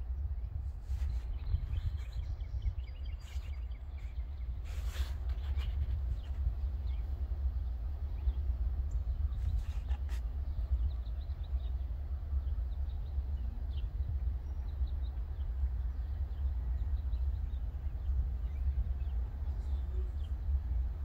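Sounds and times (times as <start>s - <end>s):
steady low rumble: 0.0s - 21.0s
small birds chirping: 0.3s - 21.0s.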